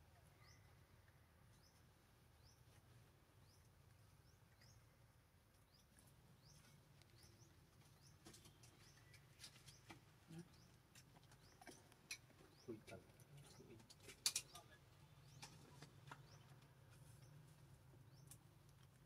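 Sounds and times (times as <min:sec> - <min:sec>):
small bird chirping: 0:00.2 - 0:00.8, 0:01.5 - 0:05.0, 0:05.6 - 0:19.0.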